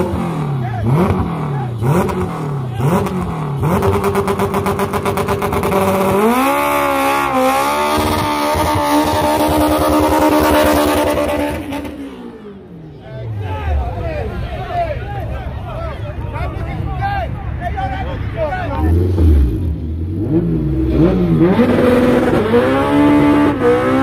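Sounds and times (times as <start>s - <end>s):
car engines revving hard: 0.0s - 14.4s, 18.6s - 24.0s.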